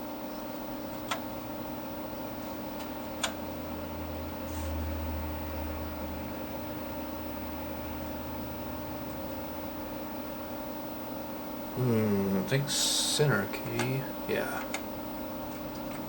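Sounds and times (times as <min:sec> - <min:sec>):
computer fan humming: 0:00.0 - 0:16.0.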